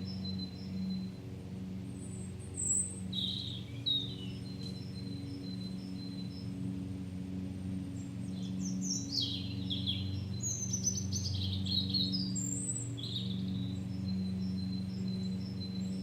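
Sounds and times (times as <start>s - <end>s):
birds twittering: 0.0s - 16.0s
lawn mower engine running: 0.0s - 16.0s.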